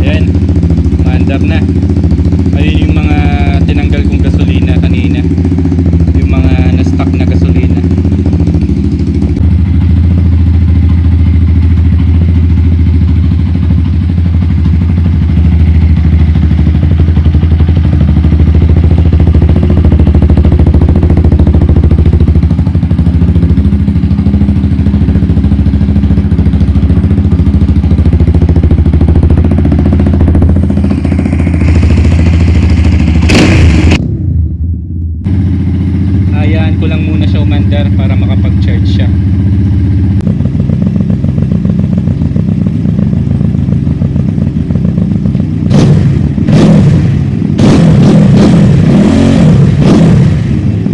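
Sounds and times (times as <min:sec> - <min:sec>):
motorcycle engine idling: 0:00.0 - 0:47.7, 0:48.7 - 0:50.9.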